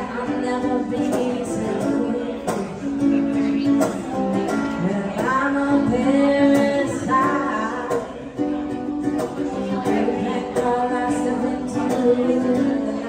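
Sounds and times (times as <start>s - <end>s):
woman singing: 0.0s - 8.4s, 9.1s - 13.0s
ukulele strumming: 0.0s - 13.0s.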